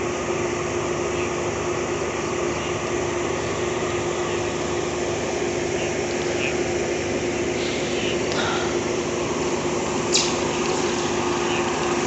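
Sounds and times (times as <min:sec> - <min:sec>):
train coach hum: 0:00.0 - 0:12.0.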